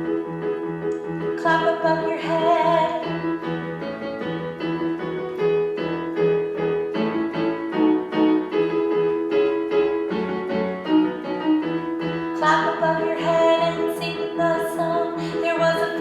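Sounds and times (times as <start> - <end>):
piano playing children's song: 0.0 - 16.0.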